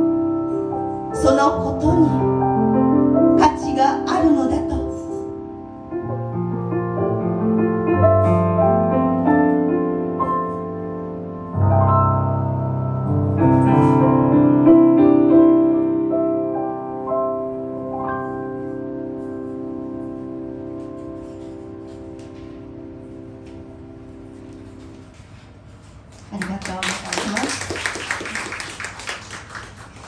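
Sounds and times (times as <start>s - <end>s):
solo piano playing: 0.0s - 25.1s.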